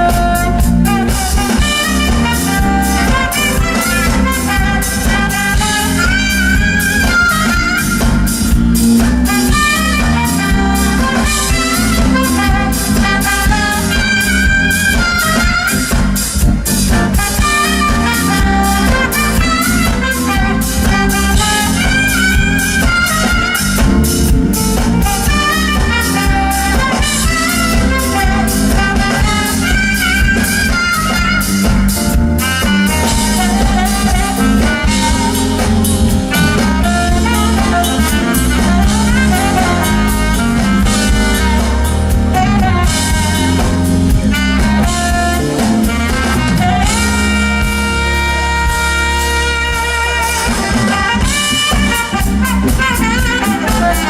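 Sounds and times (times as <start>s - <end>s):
drum kit: 0.0s - 54.0s
heavy bass line: 0.0s - 54.0s
saxophone melody: 0.0s - 54.0s.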